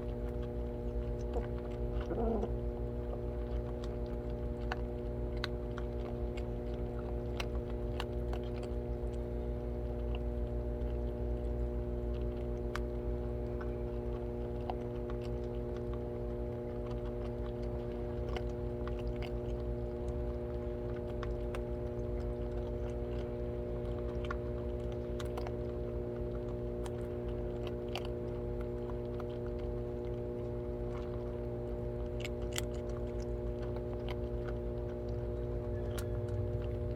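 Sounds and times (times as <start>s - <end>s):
cats chewing food: 0.0s - 36.9s
steady low hum: 0.0s - 36.9s.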